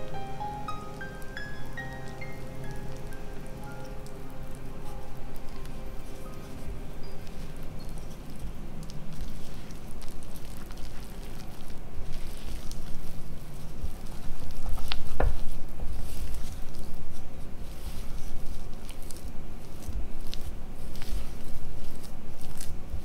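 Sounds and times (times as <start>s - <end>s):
dough kneaded by hand: 0.0s - 23.0s.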